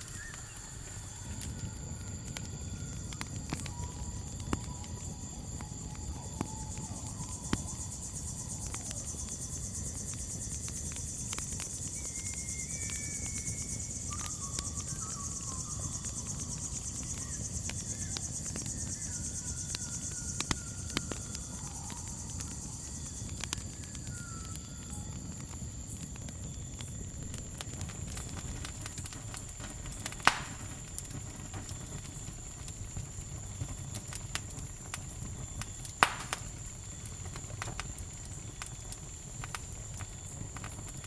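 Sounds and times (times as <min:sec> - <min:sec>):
faint whistled calls: 0:00.0 - 0:25.5, 0:27.6 - 0:41.0
campfire crackling and popping: 0:00.0 - 0:41.0
crickets chirring: 0:00.0 - 0:41.0.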